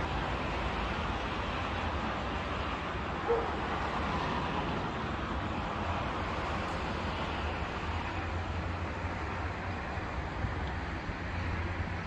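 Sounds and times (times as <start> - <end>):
distant city traffic hum: 0.0 - 12.0.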